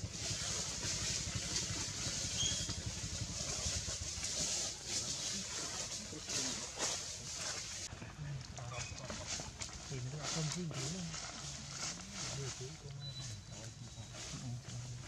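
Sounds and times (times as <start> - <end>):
small engine running: 0.0 - 7.9, 9.1 - 15.0.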